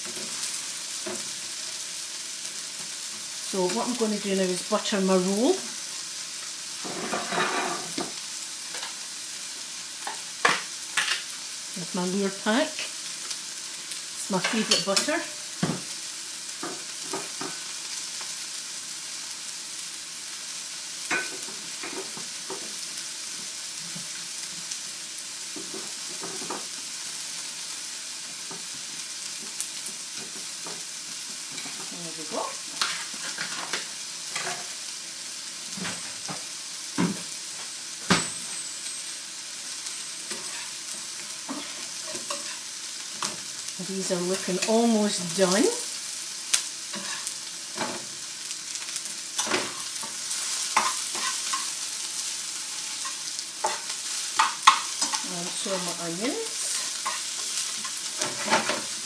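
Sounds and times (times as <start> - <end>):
sausages sizzling in frying pans: 0.0 - 59.0.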